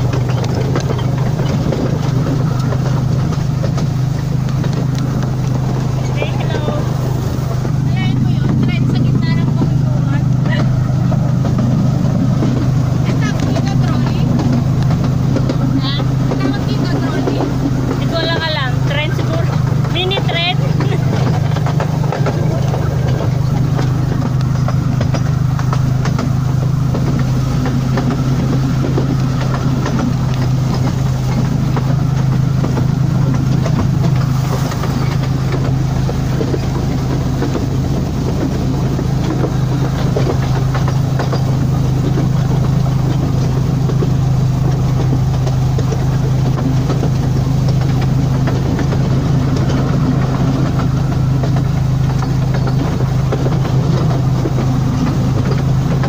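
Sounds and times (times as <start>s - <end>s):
train car running on track: 0.0s - 56.0s.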